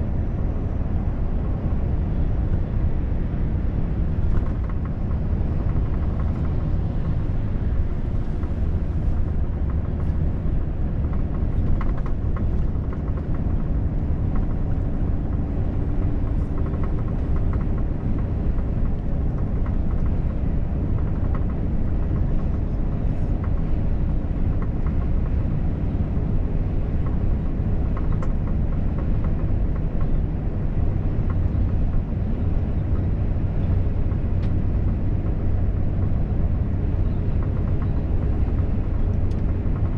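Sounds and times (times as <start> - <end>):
faint engine hum: 0.0 - 39.9
truck engine and road rumble: 0.0 - 39.9.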